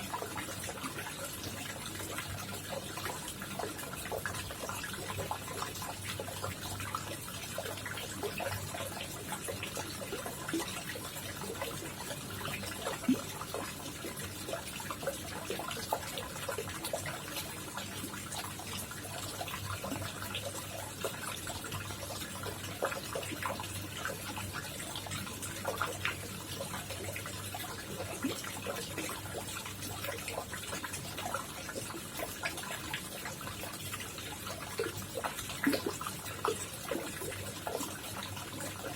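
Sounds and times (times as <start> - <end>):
pond water trickling and splashing: 0.0 - 38.9
water drips and plops: 0.0 - 38.9.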